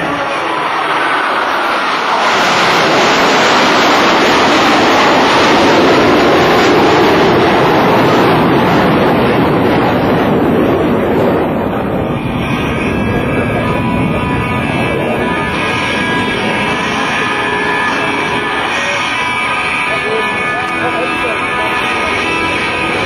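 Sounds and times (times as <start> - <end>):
jet aircraft roaring past: 0.0 - 23.0.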